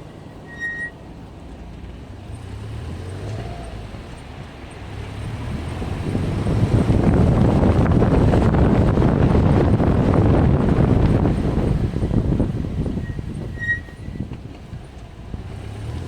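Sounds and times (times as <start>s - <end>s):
brake squeal: 0.0s - 16.0s
car engine and road noise: 0.0s - 16.0s.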